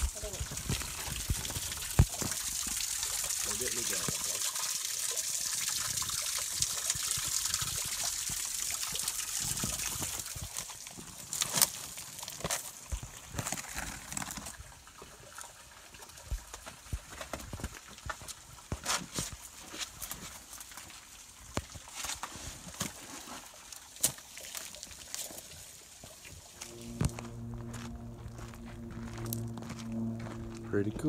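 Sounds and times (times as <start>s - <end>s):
water trickling over boulders: 0.0s - 30.9s.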